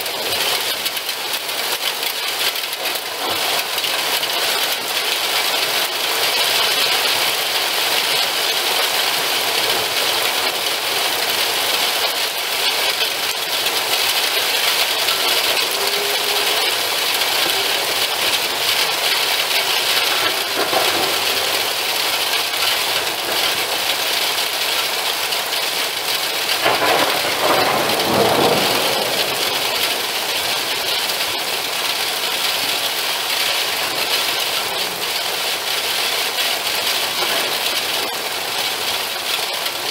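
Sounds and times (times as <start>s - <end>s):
hail pellets rattling: 0.0s - 39.9s
heavy rain and hail falling: 0.0s - 39.9s.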